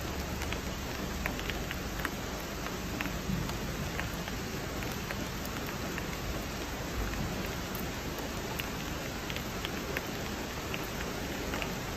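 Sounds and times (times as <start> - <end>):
raindrops tapping close by: 0.0 - 11.9.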